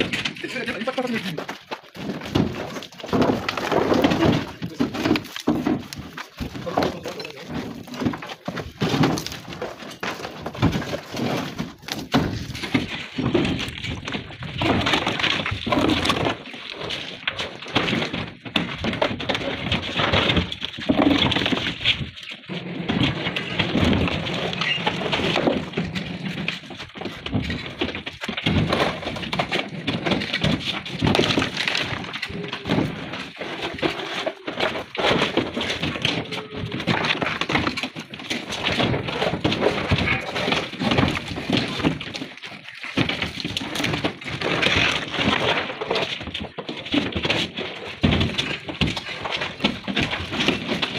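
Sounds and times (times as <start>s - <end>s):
stone slabs clattering: 0.0s - 50.9s.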